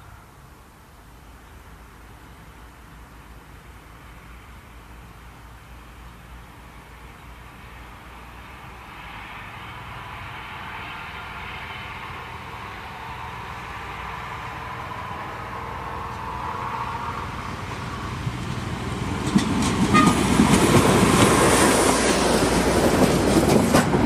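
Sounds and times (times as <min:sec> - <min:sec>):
diesel engine passing: 0:00.0 - 0:24.0
wheels rumbling over rails: 0:03.4 - 0:24.0.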